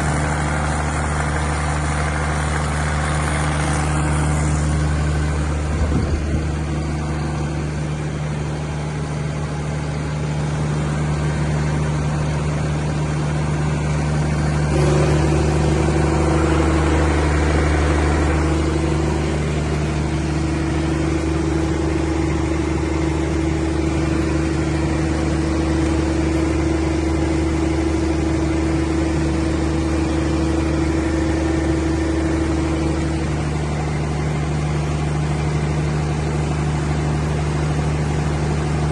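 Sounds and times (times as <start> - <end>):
diesel generator running: 0.0 - 38.9
mid-pitched hum: 0.0 - 38.9.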